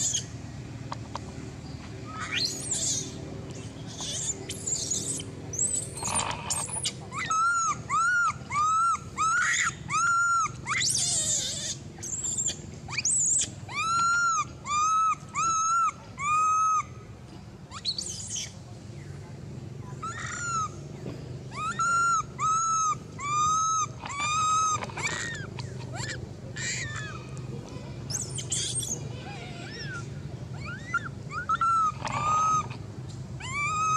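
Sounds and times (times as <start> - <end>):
baby monkey crying: 0.0 - 0.3, 2.0 - 3.2, 3.8 - 17.0, 17.7 - 18.6, 20.0 - 20.8, 21.5 - 27.5, 28.1 - 33.9.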